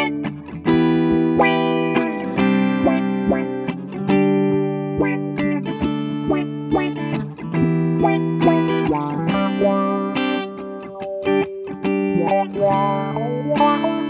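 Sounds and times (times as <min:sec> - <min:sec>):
electric guitars with auto-wah: 0:00.0 - 0:14.0.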